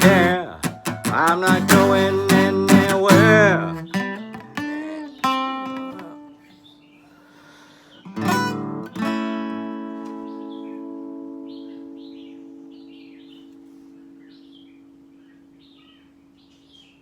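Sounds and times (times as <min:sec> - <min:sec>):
acoustic guitar plucking and strumming: 0:00.0 - 0:06.8, 0:08.0 - 0:15.8.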